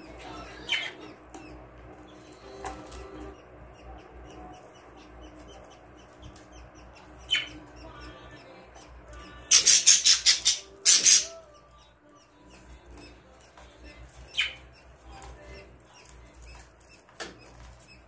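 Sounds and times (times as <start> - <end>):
budgerigars chirping: 0.0 - 18.0
budgie chicks raspy begging calls: 0.0 - 18.0.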